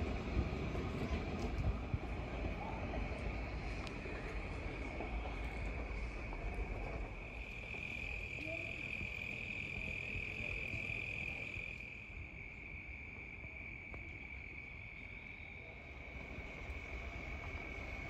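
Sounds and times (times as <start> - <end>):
crickets chirring: 2.2 - 18.0.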